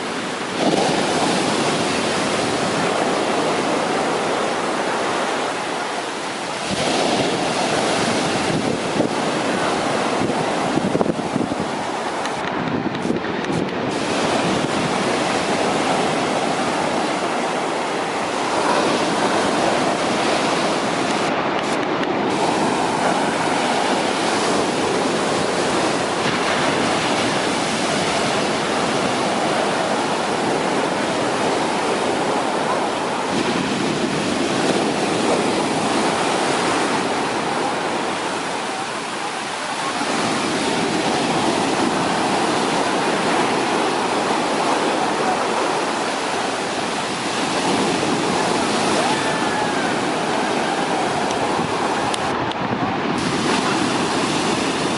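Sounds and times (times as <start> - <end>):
sea waves breaking on beach: 0.0 - 54.9.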